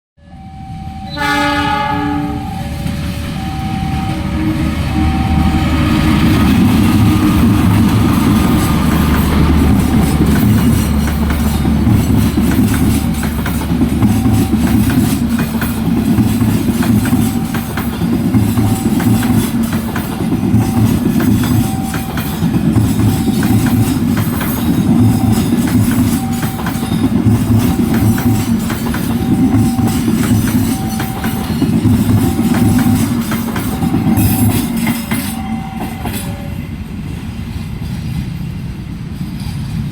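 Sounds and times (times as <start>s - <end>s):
train low rumble: 0.2s - 39.9s
train wheels clattering on rails: 2.8s - 39.9s.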